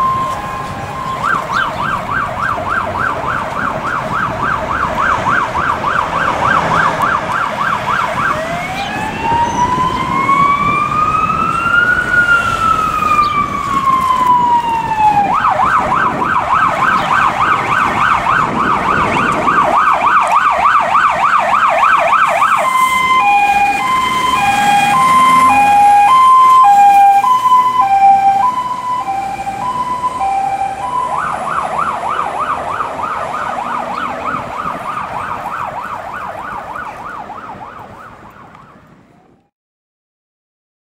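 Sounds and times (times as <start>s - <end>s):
truck engine rumbling: 0.0s - 39.2s
electronic siren yelp and wail: 0.0s - 39.5s.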